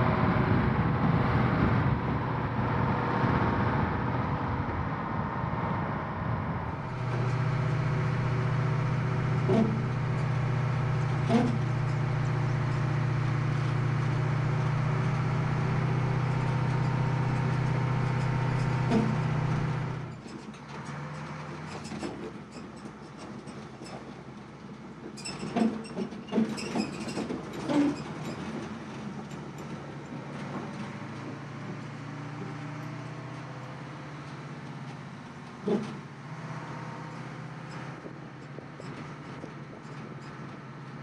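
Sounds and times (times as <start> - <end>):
truck engine drone: 0.0 - 41.0.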